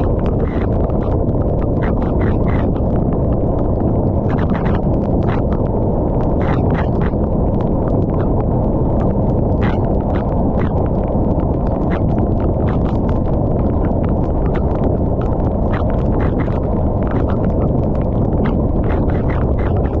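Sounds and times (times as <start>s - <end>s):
rain rushing: 0.0s - 20.0s
raindrops clicking on surface: 0.0s - 20.0s.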